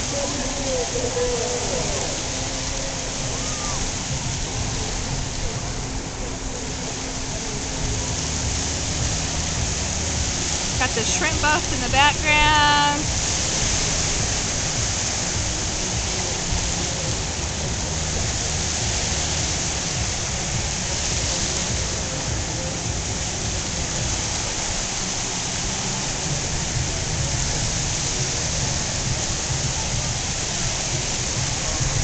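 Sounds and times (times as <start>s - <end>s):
small waves breaking on shore: 0.0s - 32.0s.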